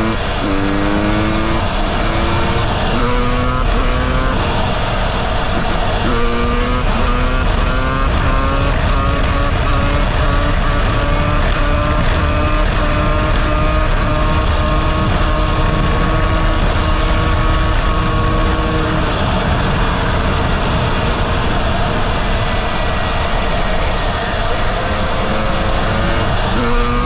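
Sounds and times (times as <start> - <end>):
heavy wind rush: 0.0 - 27.0
two-stroke engine running hard: 0.0 - 27.0.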